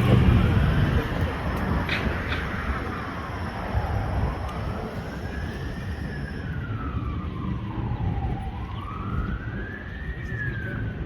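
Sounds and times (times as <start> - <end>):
engine and road rumble: 0.0 - 11.0
fire engine siren wailing: 0.0 - 11.0.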